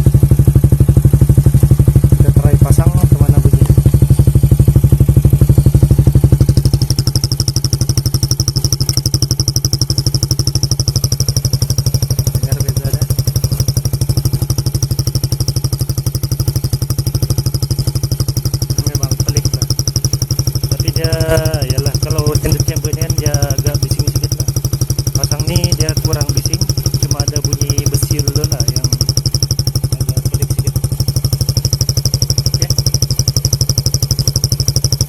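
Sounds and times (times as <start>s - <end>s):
two-stroke motorcycle idling: 0.0s - 35.0s.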